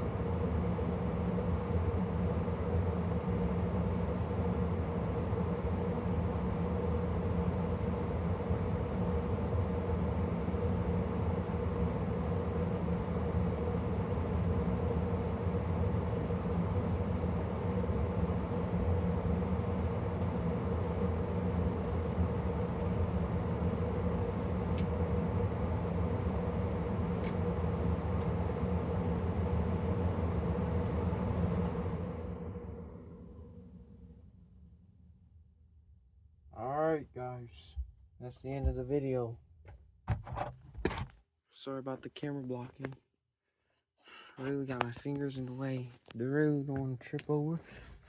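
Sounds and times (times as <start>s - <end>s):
furnace air rushing with low hum: 0.0s - 39.4s, 40.1s - 43.0s, 44.1s - 48.0s.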